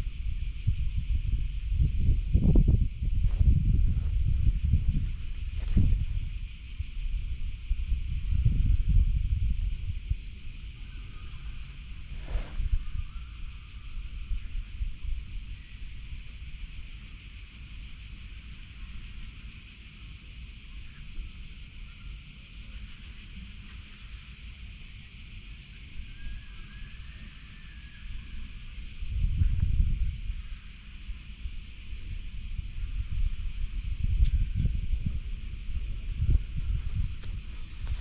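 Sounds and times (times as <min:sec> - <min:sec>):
high-pitched hiss: 0:00.0 - 0:38.0
wind rumbling on microphone: 0:00.0 - 0:38.0.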